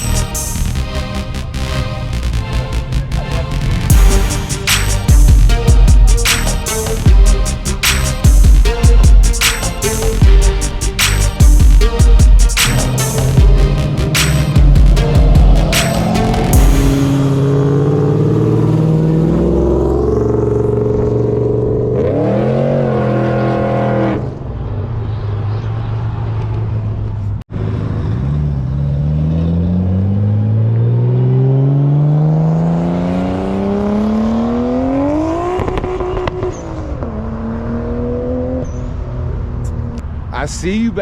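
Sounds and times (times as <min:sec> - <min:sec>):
car accelerating: 0:00.0 - 0:40.4.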